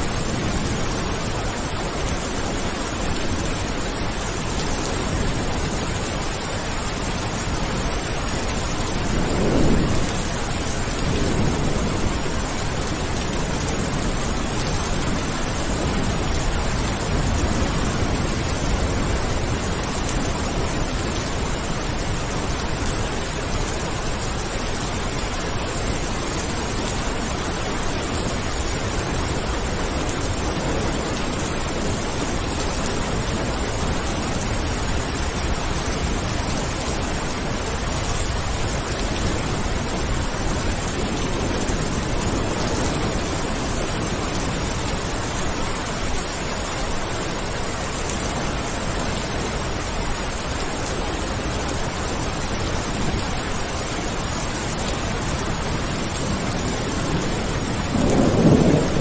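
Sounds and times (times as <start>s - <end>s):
steady rain: 0.0s - 59.0s
thunder rumbling: 4.3s - 49.8s, 51.2s - 59.0s.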